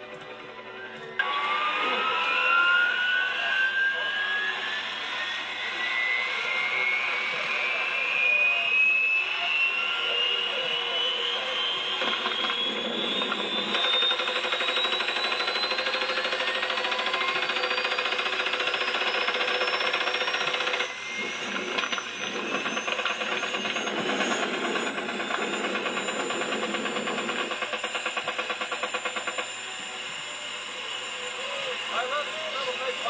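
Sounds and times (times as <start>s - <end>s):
helicopter rotor chop: 0.0s - 33.0s
high turbine whine: 0.0s - 33.0s.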